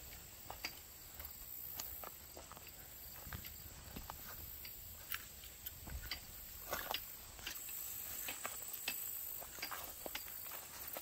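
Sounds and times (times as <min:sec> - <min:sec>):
footsteps on dirt trail: 0:00.0 - 0:11.0
grass rustling: 0:00.0 - 0:11.0.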